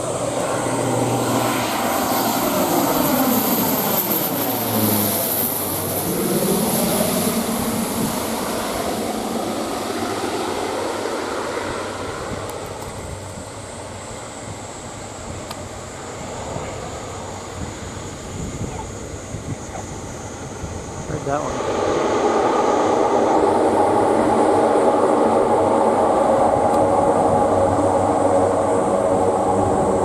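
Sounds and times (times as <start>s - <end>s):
high turbine whine: 0.0s - 30.0s
propeller plane passing low: 0.0s - 30.0s.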